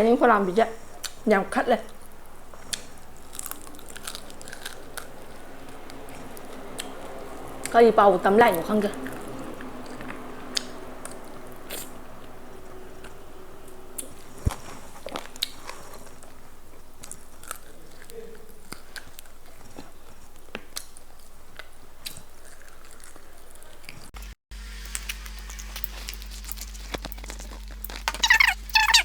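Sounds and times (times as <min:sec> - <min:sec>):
low steady background noise: 0:00.0 - 0:29.0
person chewing crunchy food: 0:01.9 - 0:07.8, 0:09.0 - 0:29.0.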